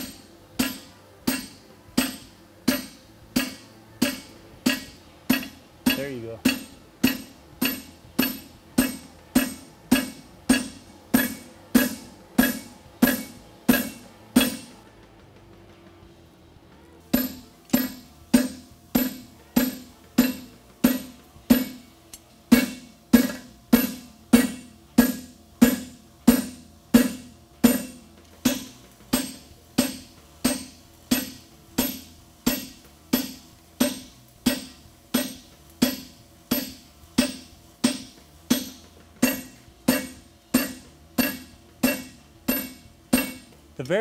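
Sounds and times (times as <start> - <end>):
hammer striking metal with ring: 0.0 - 14.9, 17.1 - 21.9, 22.5 - 43.6.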